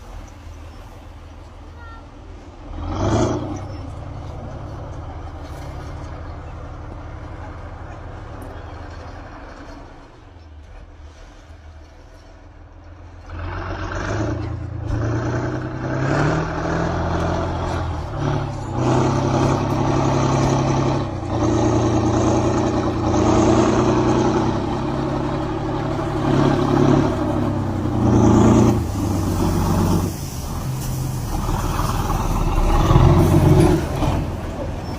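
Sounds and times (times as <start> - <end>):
tractor diesel engine running hard: 0.0 - 11.5, 12.6 - 34.9.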